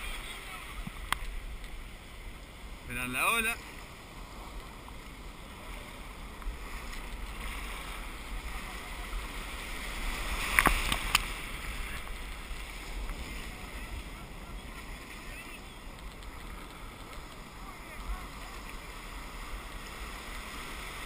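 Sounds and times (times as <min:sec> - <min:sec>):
surf hissing around kayak: 0:00.0 - 0:21.0.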